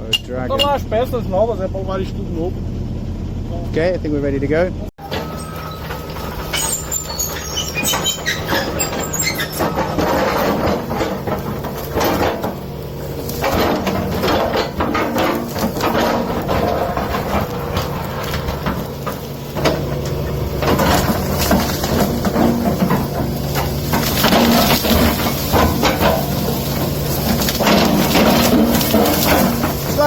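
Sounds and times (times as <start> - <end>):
diesel engine running: 0.0 - 30.0
bucket clattering and scraping: 5.0 - 30.0.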